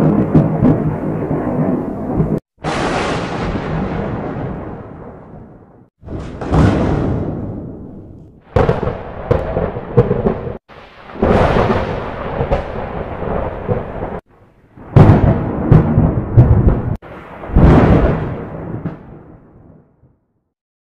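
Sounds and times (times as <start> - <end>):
thunder crack and rumble: 0.0 - 20.2.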